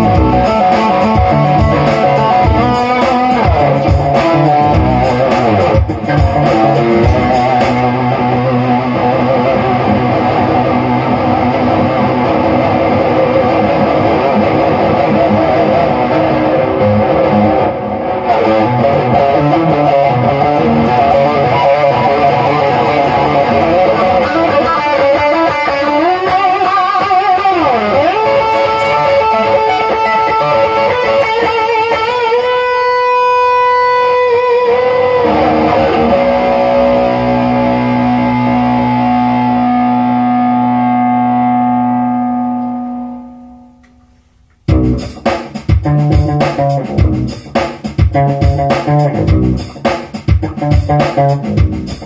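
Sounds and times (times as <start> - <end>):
electric guitar blues lead: 0.0 - 52.0.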